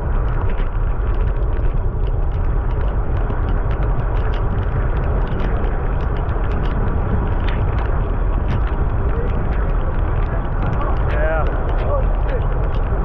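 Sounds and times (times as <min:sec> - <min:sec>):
sharp ticks of rain: 0:00.0 - 0:13.0
wind and rolling rumble: 0:00.0 - 0:13.0.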